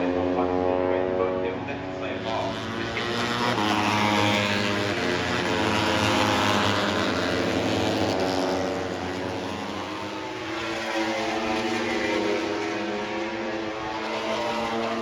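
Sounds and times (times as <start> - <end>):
loud engine drone: 0.0 - 15.0.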